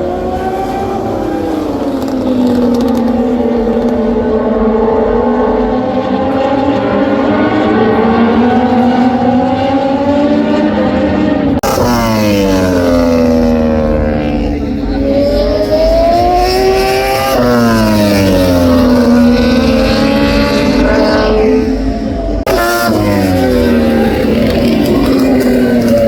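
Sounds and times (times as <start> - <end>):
racing motorcycle engine: 0.0 - 26.0.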